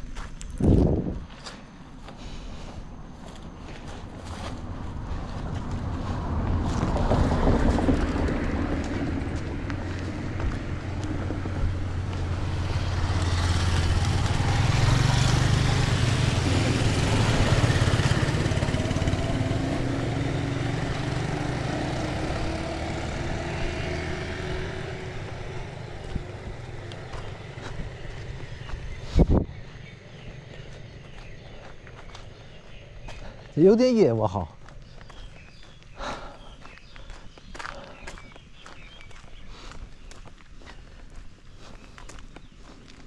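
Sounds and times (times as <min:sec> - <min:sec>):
vehicle engine running: 0:01.0 - 0:43.0.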